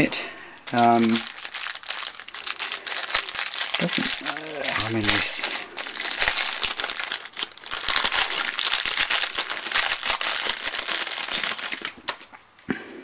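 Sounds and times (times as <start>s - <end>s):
plastic bag crinkling: 0.4s - 12.6s.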